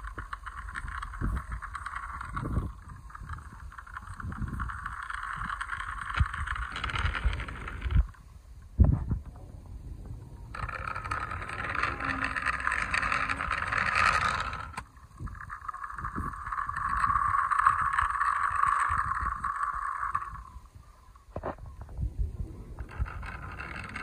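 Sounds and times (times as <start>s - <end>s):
toy car wheels rolling on concrete: 0.0s - 24.0s.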